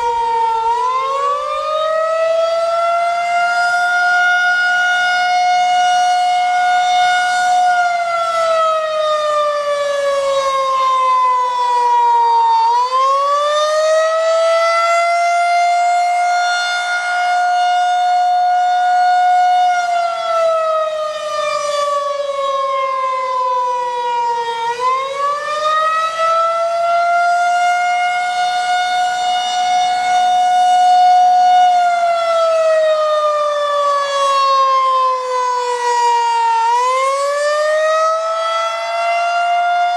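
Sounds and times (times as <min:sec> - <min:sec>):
rotating siren wailing: 0:00.0 - 0:39.9.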